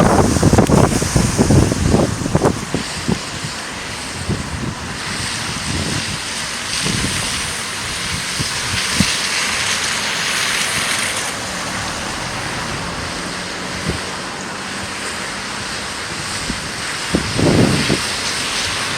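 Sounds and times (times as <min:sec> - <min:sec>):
wind buffeting microphone: 0:00.0 - 0:14.8, 0:15.6 - 0:18.9
steady rushing wind noise: 0:00.0 - 0:18.9.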